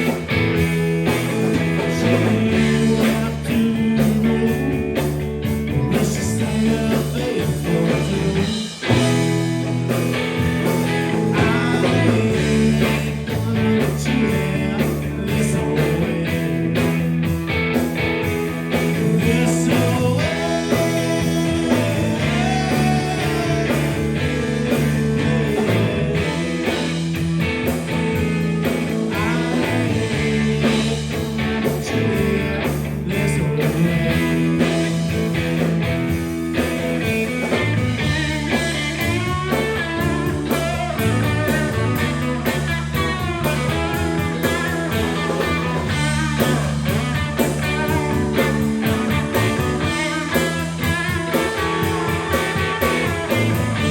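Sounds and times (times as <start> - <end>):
bass line: 0.0 - 53.9
electric guitar: 0.0 - 53.9.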